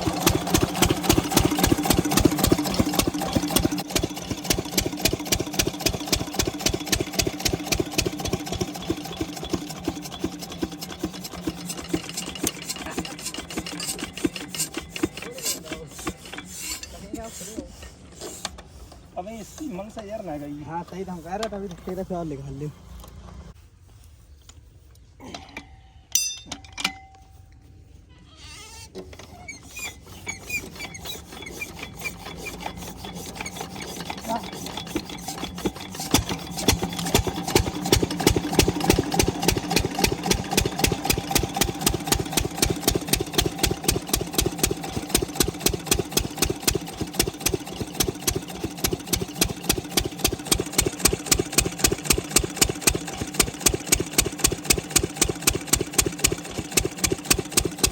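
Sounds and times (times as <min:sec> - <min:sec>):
diesel pump engine starting: 0:00.0 - 0:23.6, 0:29.0 - 0:57.9.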